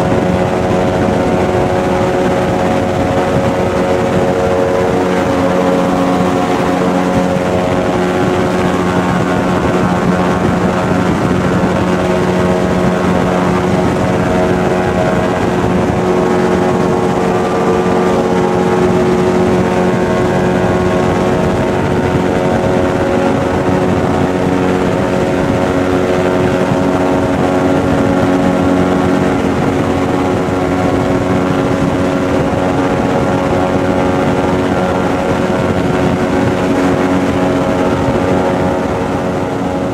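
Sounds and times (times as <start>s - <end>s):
airboat engine and propeller drone: 0.0s - 39.9s.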